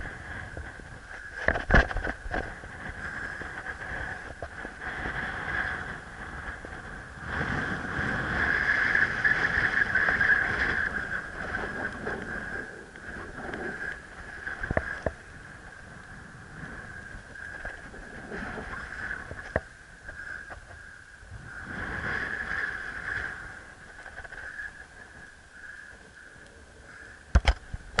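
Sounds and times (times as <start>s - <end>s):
wind gusting over microphone: 0.0s - 28.0s.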